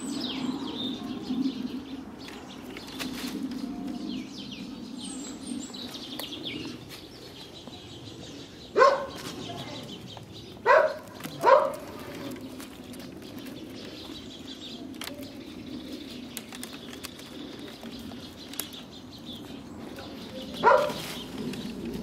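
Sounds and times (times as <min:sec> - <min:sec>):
branches rustling and ticking: 0:00.0 - 0:22.0.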